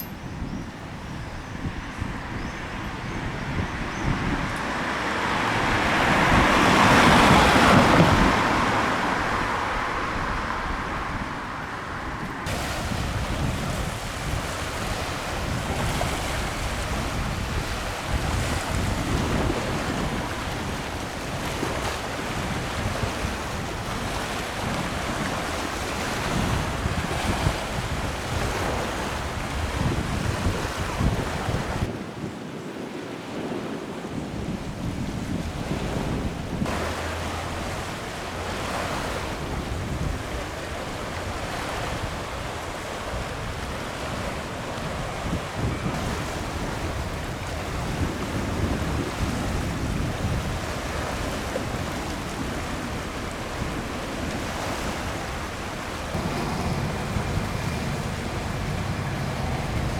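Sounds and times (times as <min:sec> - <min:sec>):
wind buffeting microphone: 0:00.0 - 0:59.9
sea waves washing on shore: 0:00.8 - 0:59.9.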